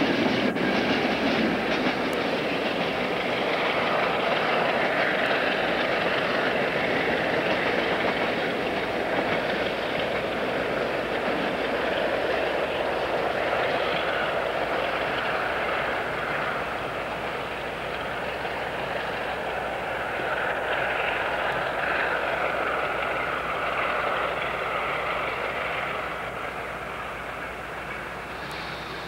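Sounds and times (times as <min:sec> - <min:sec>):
distant train passing: 0:00.0 - 0:29.0.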